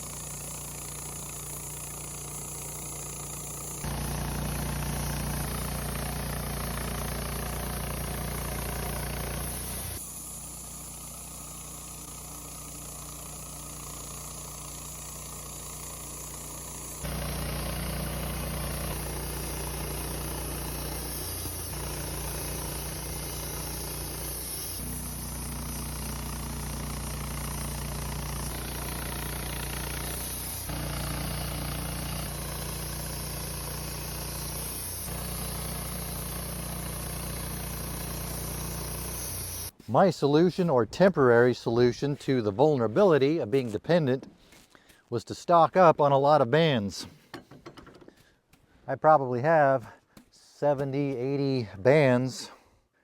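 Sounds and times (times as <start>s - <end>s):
sawmill engine running: 0.0s - 44.3s.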